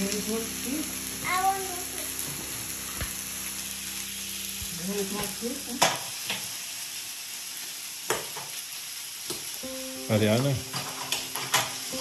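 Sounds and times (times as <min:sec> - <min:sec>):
fish sizzling on grill: 0:00.0 - 0:12.0.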